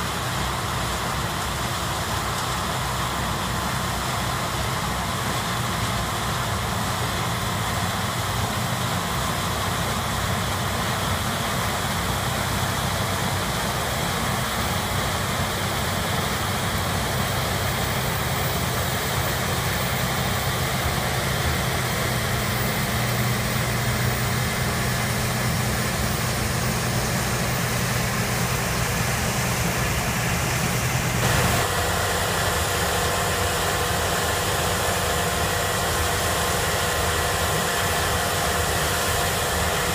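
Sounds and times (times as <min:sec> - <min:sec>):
combine harvester drone: 0:00.0 - 0:39.9
high steady whine: 0:00.0 - 0:39.9
tractor engine: 0:00.0 - 0:39.9.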